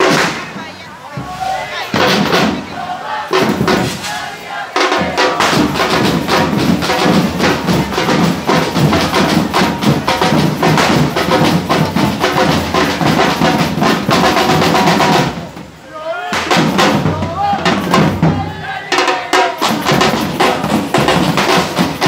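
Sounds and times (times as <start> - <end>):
snare and bass drums playing: 0.0 - 22.0.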